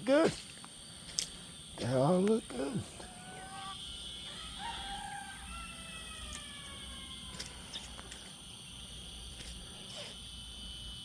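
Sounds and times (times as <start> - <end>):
high insect-like drone: 0.0 - 11.0.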